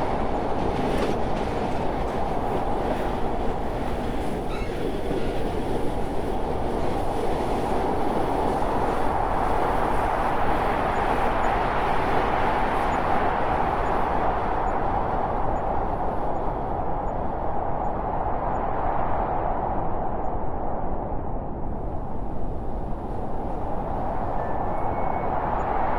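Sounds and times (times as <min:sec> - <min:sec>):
train rumbling on rails: 0:00.0 - 0:17.8, 0:21.7 - 0:25.9.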